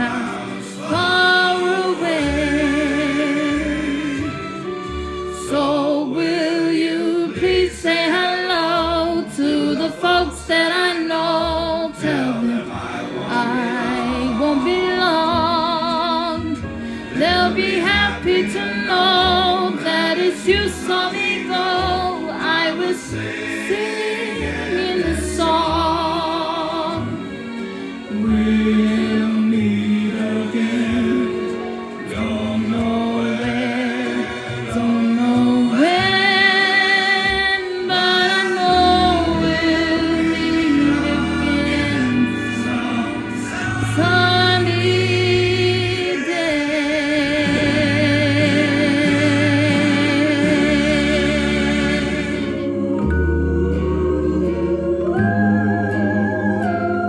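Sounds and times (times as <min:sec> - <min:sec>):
instrumental accompaniment with bass: 0:00.0 - 0:57.0
voices singing with vibrato: 0:00.0 - 0:57.0.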